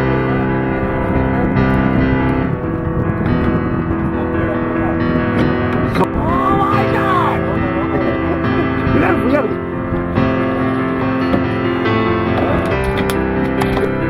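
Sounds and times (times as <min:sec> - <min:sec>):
sustained keyboard chords: 0:00.0 - 0:14.0.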